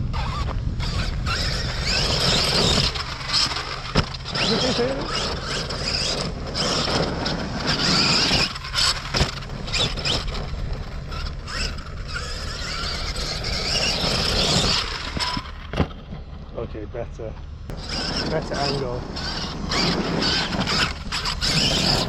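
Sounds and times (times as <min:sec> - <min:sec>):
rc truck driving over dirt: 0:00.0 - 0:22.0.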